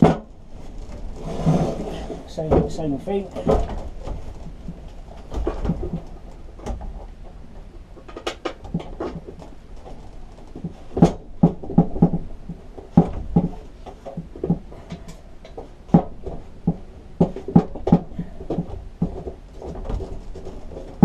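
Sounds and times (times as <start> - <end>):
metal clicks and knocks: 2.5 - 21.0.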